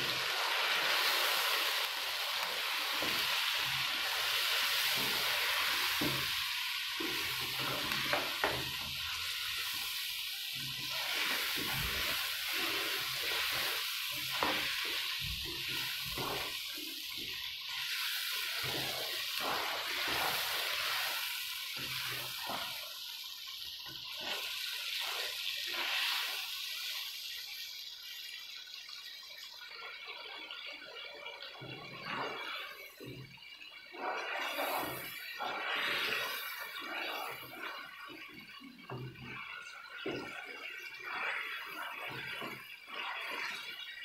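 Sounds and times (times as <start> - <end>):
spatula scraping a pan: 0.0 - 23.0, 31.6 - 44.0
meat sizzling in a wok: 0.0 - 44.0.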